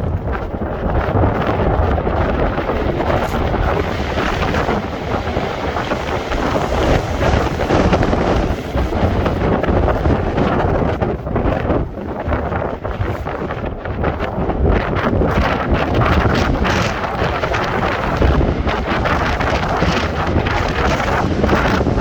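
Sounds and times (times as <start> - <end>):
stormy sea surf: 0.0 - 22.0
wind buffeting the microphone: 0.0 - 22.0.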